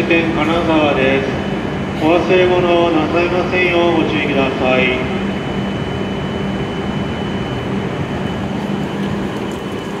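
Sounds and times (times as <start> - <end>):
thin high whine: 0.0 - 10.0
train equipment humming: 0.0 - 10.0.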